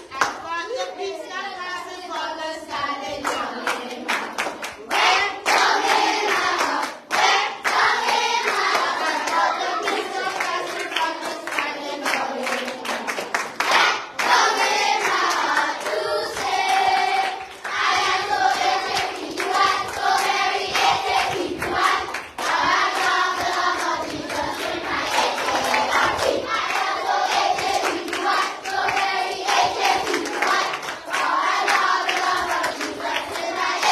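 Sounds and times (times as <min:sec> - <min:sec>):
hands clapping: 0:00.0 - 0:00.5, 0:03.2 - 0:33.9
children singing: 0:01.8 - 0:33.9.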